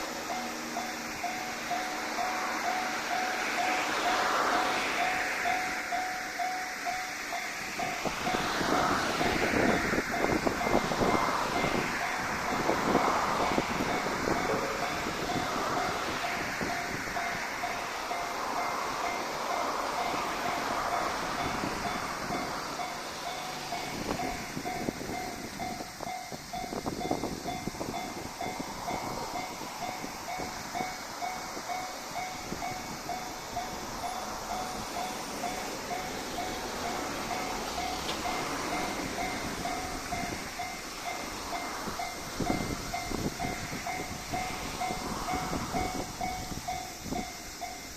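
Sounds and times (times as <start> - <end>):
level crossing bell ringing: 0.0 - 47.9
train wheels clattering on rails: 0.0 - 47.9.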